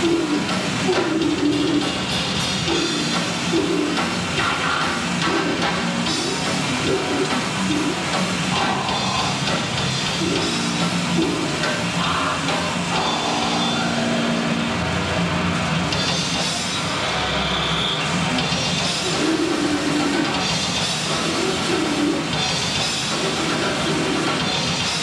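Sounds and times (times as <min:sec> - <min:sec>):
distorted electric guitar: 0:00.0 - 0:25.0
drum kit: 0:00.0 - 0:25.0.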